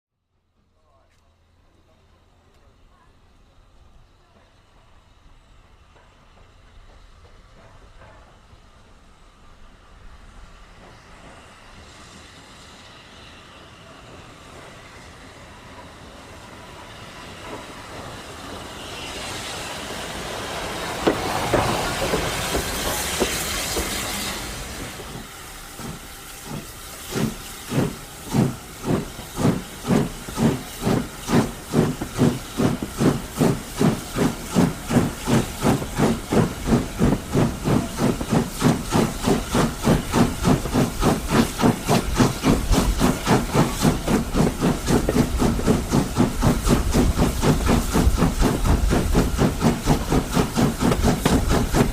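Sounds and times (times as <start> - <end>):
steam locomotive exhaust chuffs: 3.6 - 51.9
loud hiss of steam: 4.8 - 51.9.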